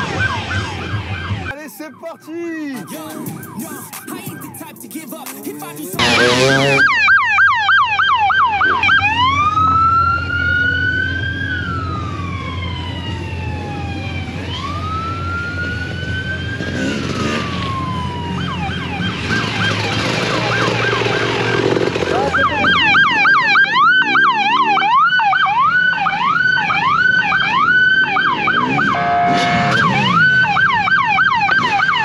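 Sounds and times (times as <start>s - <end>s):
police siren yelp and wail: 0.0s - 32.0s.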